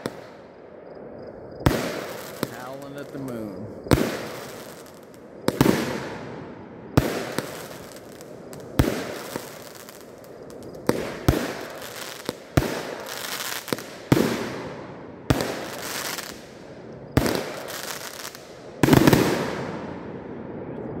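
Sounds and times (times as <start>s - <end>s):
fireworks bangs: 0.0s - 0.5s, 1.6s - 20.9s
crackling hiss: 0.0s - 21.0s.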